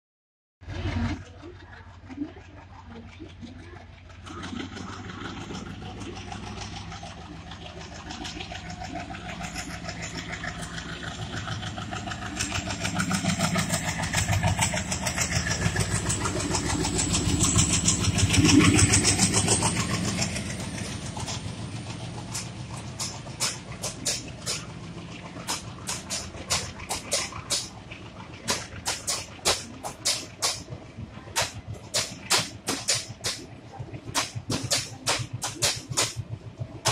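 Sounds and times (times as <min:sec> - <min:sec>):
diesel locomotive engine: 0:00.6 - 0:36.9
train wheels clacking on rails: 0:00.9 - 0:36.9.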